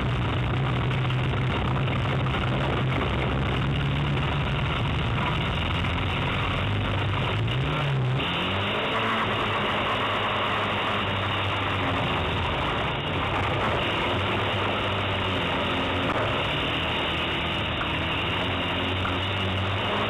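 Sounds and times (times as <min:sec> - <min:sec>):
race car engine running hard: 0:00.0 - 0:20.0.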